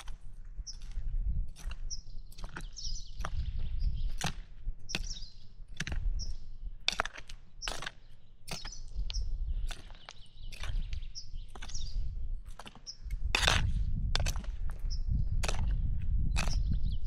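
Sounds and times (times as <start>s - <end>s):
hand tool scraping soil: 0.0s - 3.4s, 4.0s - 16.8s
small birds chirping: 0.0s - 13.2s, 14.4s - 17.0s.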